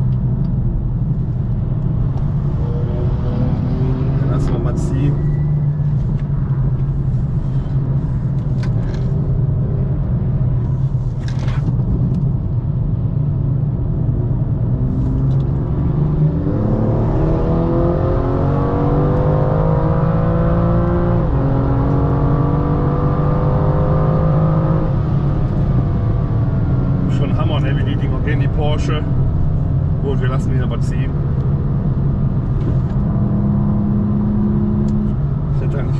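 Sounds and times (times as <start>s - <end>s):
car engine accelerating: 0.0s - 10.3s, 14.4s - 35.9s.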